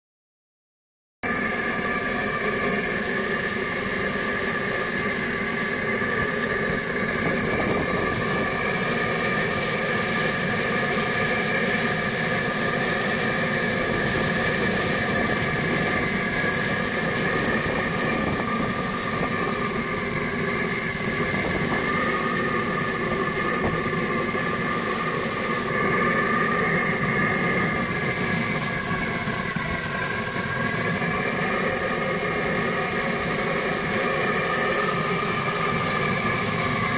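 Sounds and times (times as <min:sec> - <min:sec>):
strong hiss: 0:01.4 - 0:36.9.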